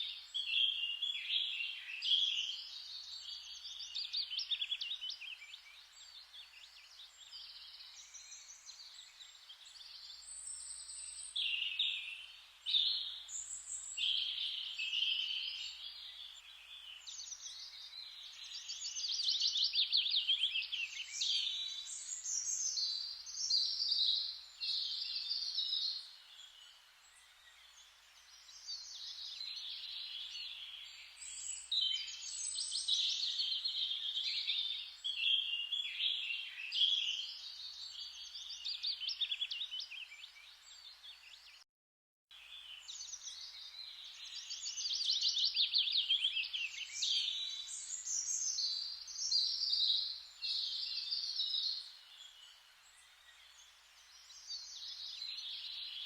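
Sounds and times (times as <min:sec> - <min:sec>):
faint forest hiss: 0:00.0 - 0:41.6, 0:42.3 - 0:56.0
songbirds singing: 0:00.0 - 0:41.6, 0:42.3 - 0:56.0.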